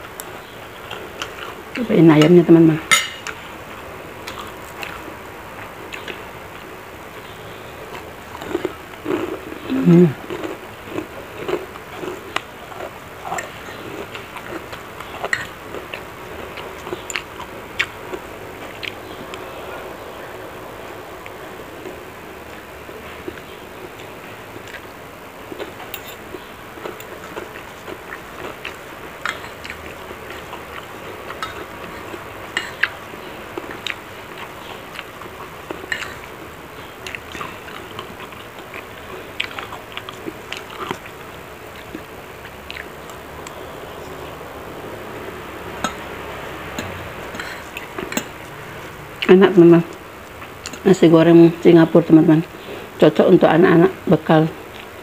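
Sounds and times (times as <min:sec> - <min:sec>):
chewing food: 0:00.0 - 0:02.6, 0:03.2 - 0:55.0.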